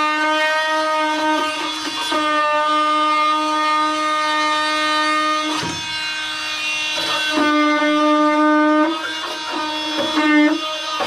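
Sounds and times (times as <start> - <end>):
oscillating tool buzzing on metal: 0.0 - 11.0.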